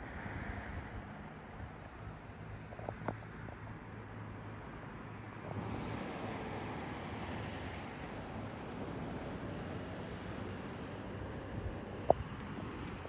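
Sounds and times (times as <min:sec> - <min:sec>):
steady low traffic hum: 0:00.0 - 0:13.0.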